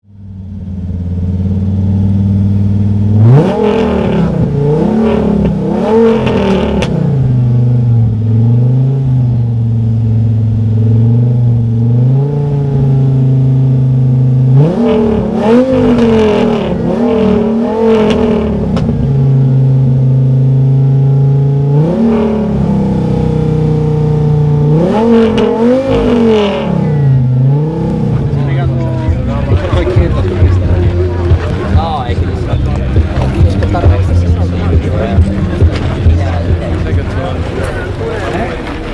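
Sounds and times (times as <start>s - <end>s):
car engine revving: 0.1s - 38.9s.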